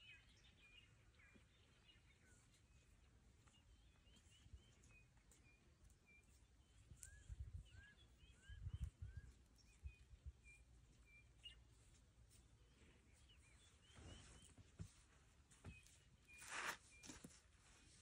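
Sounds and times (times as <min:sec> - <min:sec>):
bird chirps: 0:00.0 - 0:17.4.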